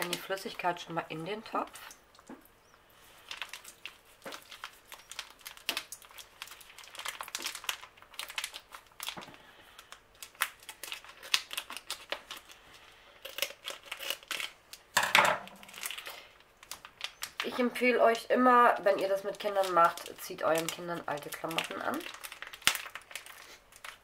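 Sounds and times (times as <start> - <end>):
plastic pack crinkling: 3.0 - 24.0.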